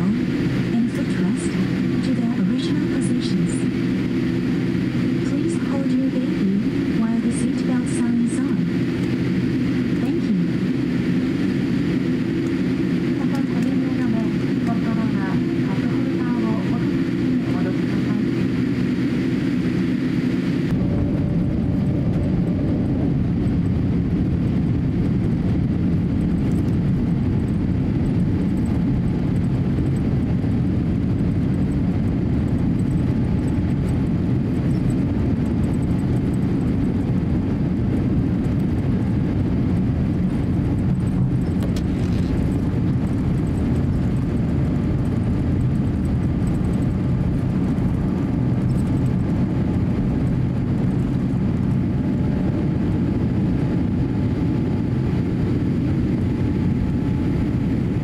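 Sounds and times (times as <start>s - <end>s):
airliner cabin rumble and hum: 0.0s - 58.0s.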